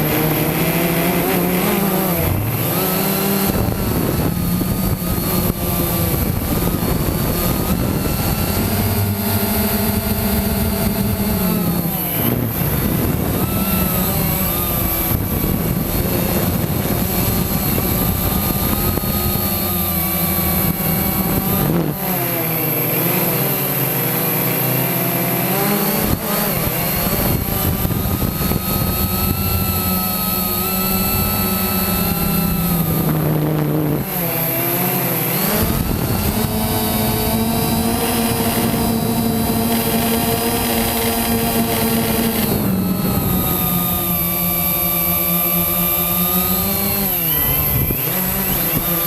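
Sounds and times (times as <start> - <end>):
quadcopter propellers whining: 0.0 - 49.0.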